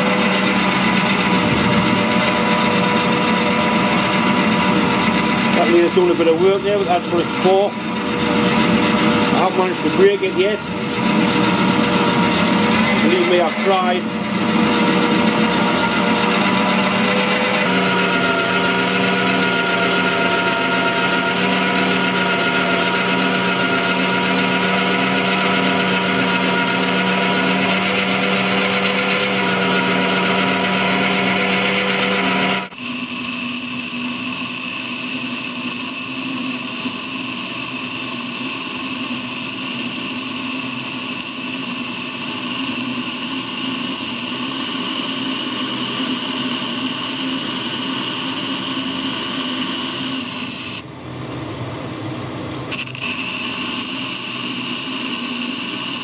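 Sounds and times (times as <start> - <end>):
lathe drilling metal humming: 0.0 - 50.9, 52.6 - 56.0
boring tool high whine: 0.0 - 51.0, 52.6 - 56.0.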